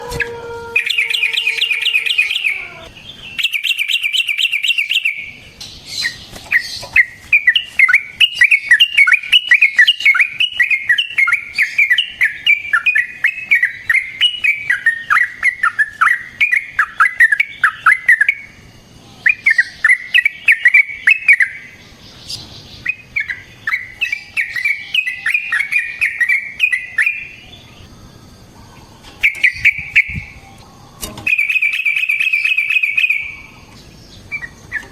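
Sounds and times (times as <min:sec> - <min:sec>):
bird chattering song: 0:00.8 - 0:34.9.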